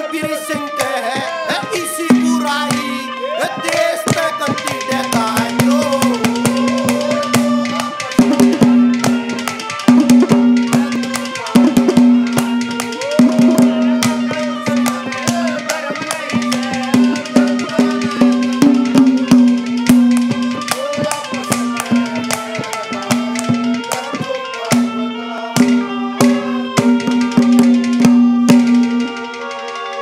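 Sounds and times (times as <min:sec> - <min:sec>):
hand drums: 0:00.0 - 0:30.0
harmonium sustained note: 0:00.0 - 0:30.0.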